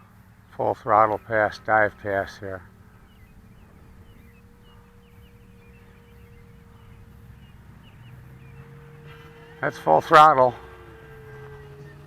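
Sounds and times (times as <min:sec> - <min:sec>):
low engine tone: 0:00.0 - 0:12.0
model plane motor whine: 0:01.0 - 0:12.0.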